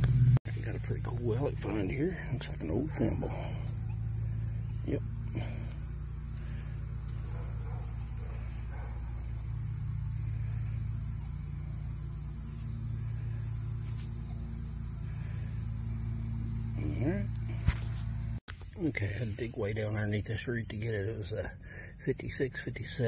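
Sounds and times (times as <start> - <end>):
insects trilling: 0.0 - 23.0
steady low hum: 0.0 - 23.0.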